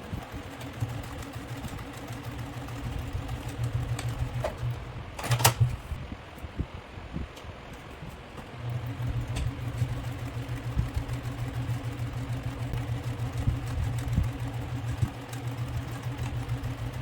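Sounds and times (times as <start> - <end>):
sewing machine running: 0.0 - 6.0, 8.5 - 17.0.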